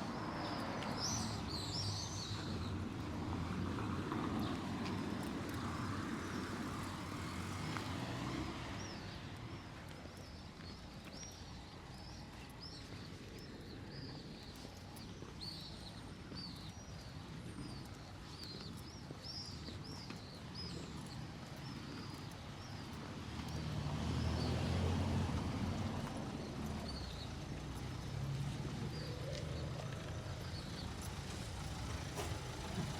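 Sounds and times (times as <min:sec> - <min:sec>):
low traffic rumble: 0:00.0 - 0:32.9.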